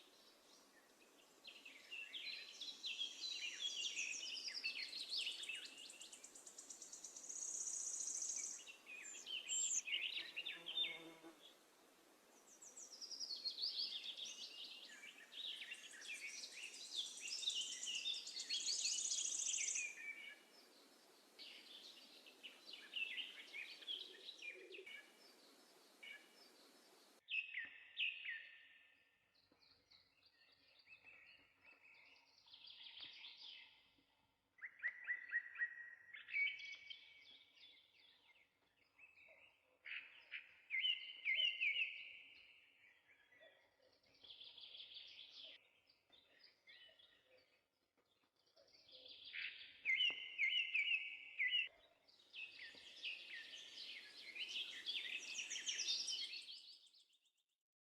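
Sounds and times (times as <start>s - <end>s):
sparrows chirping: 0.0s - 11.4s, 12.4s - 28.8s, 34.7s - 57.3s.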